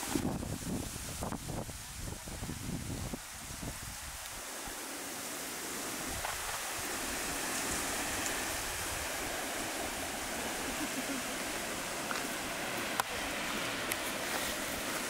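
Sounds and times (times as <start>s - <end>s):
open-air rushing hiss: 0.0s - 15.0s.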